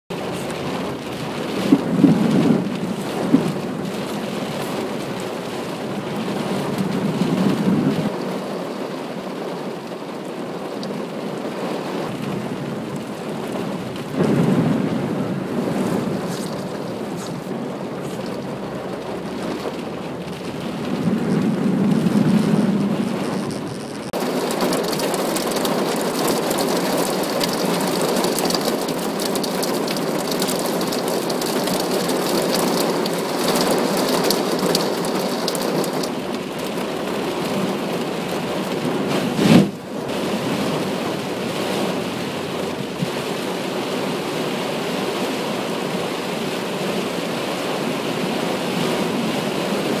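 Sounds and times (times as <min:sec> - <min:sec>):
heavy rain on car roof: 0:00.1 - 0:50.0.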